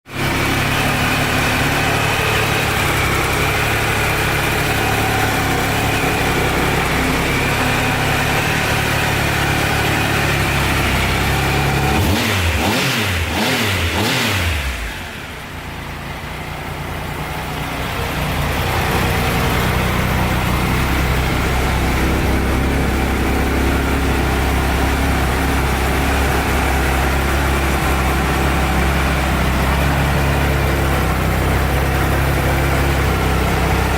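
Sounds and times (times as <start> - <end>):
motorcycle engine idling with blips: 0.1 - 33.9.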